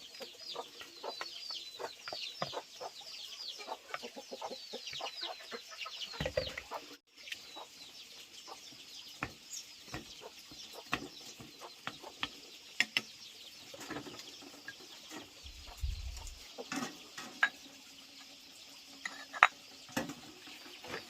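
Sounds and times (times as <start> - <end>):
chickens clucking: 0.0 - 18.4, 19.0 - 21.0.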